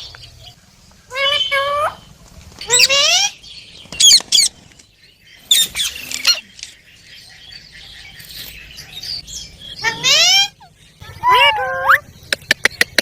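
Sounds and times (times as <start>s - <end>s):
parakeets screeching and chattering: 0.4s - 4.8s, 5.4s - 12.3s.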